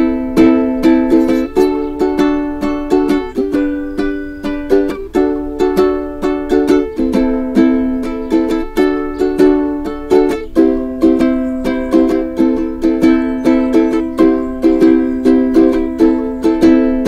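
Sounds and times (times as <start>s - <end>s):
plucked string instrument: 0.0s - 17.0s.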